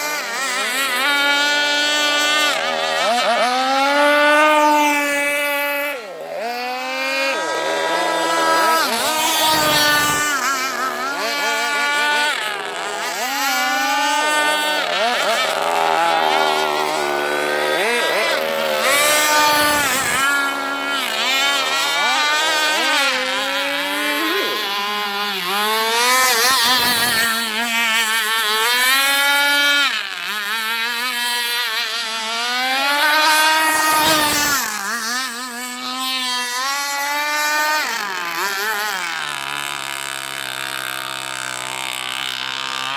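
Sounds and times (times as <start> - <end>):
model boat engine revving: 0.0 - 42.9.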